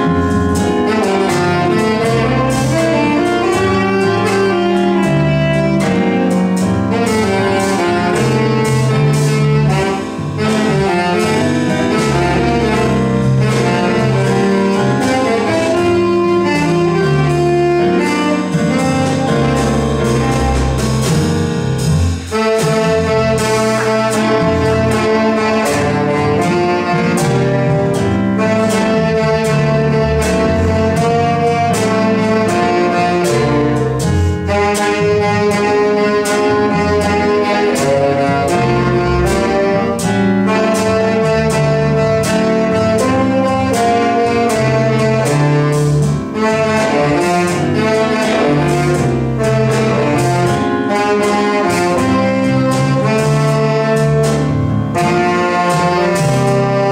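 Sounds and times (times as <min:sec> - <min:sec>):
bass line: 0:00.0 - 0:56.9
drum kit with cymbals: 0:00.0 - 0:56.9
electric keyboard: 0:00.0 - 0:56.9
saxophone melody: 0:00.0 - 0:56.9.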